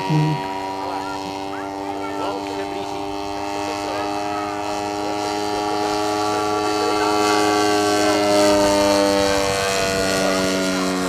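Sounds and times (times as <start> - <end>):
model plane engine droning: 0.0 - 11.0.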